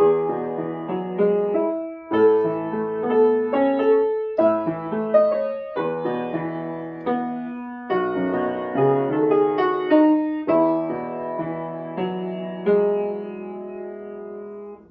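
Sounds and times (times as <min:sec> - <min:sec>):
slow piano chords: 0:00.0 - 0:14.9.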